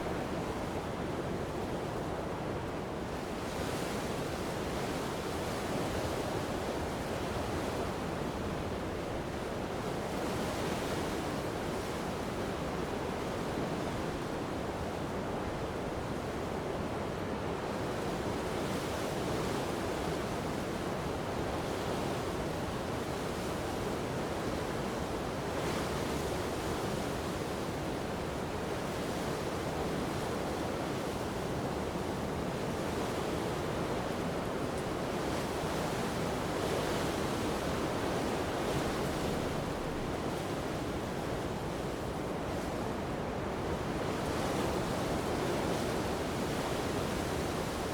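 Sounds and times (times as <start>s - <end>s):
strong coastal wind: 0.0s - 47.9s.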